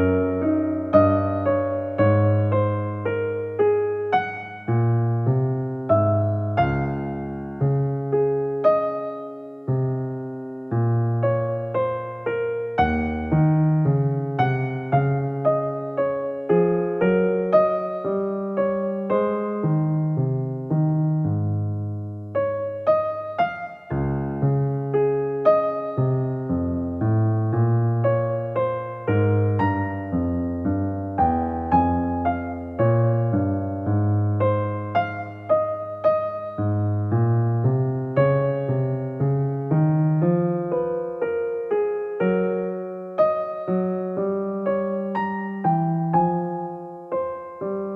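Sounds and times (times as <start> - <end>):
gentle keyboard melody: 0.0 - 47.9.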